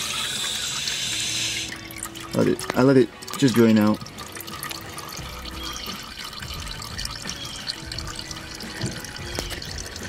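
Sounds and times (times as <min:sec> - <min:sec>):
oil running into a can: 0:00.0 - 0:10.0.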